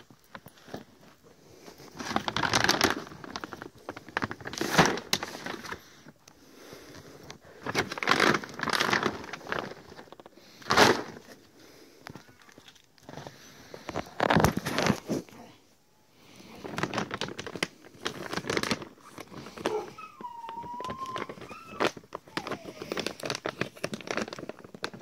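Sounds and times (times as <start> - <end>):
plastic sacks crinkling: 0.0 - 15.6, 16.2 - 25.0.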